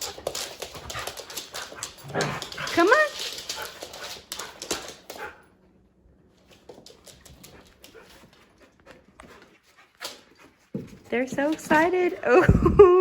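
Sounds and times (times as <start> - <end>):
dog claws clicking and scuffling: 0.0 - 5.4, 6.4 - 12.2.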